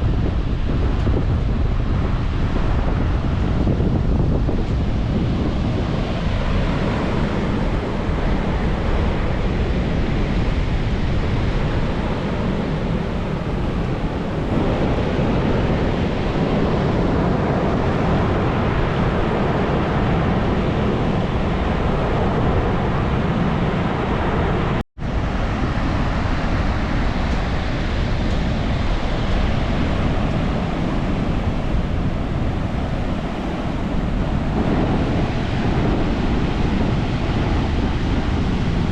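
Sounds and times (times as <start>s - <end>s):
ocean surf washing in: 0.0s - 38.9s
wind buffeting microphone: 0.0s - 38.9s.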